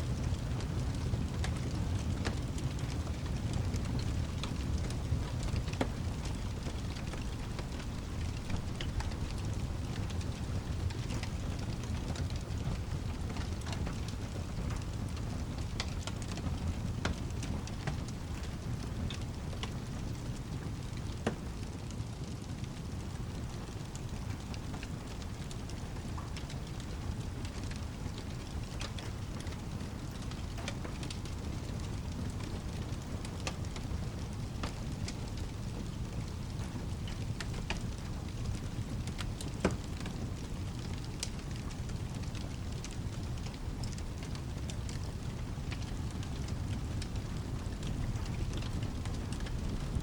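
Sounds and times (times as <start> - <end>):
low continuous rumble: 0.0 - 50.0
steady rain: 0.0 - 50.0
wood fire crackling and popping: 0.0 - 50.0.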